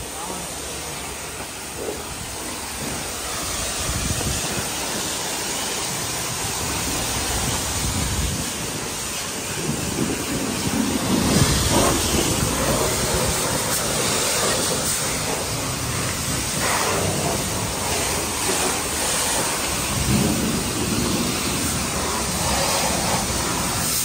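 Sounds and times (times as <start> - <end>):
pressure wand spraying water: 0.0 - 24.0.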